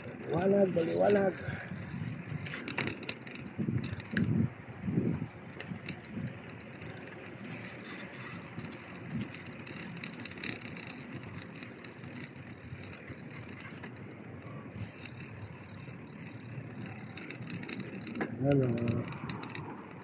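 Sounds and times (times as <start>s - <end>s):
bicycle rolling: 0.0s - 20.0s
freewheel ticking buzz: 0.0s - 20.0s.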